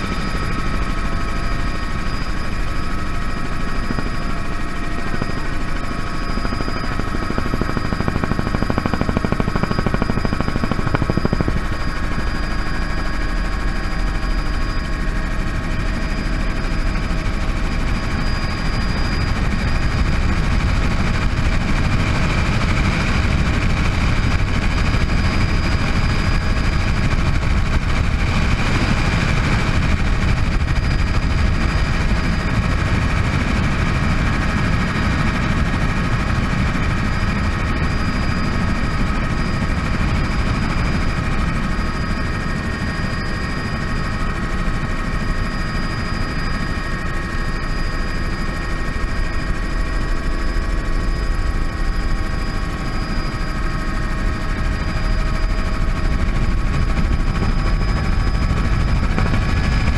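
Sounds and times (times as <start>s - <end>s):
helicopter rotor blades chopping: 0.0s - 59.9s
helicopter turbine whine: 0.0s - 59.9s.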